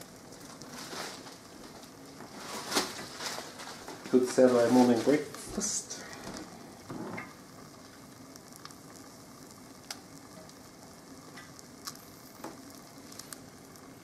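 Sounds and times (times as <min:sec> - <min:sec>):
butter sizzling in a frying pan: 0:00.0 - 0:14.0
sharp pops and crackles: 0:00.0 - 0:14.0.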